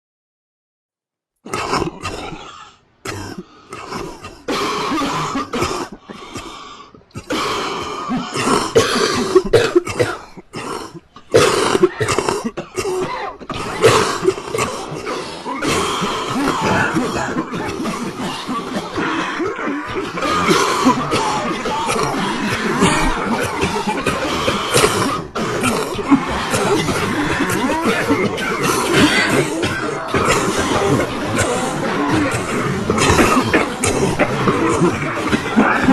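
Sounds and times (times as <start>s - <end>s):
people coughing: 1.5s - 35.9s.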